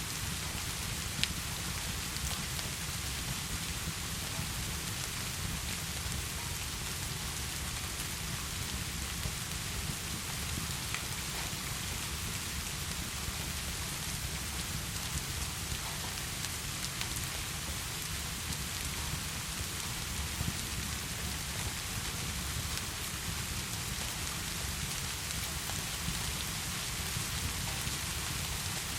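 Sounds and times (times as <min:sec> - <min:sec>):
heavy rain falling: 0:00.1 - 0:28.9.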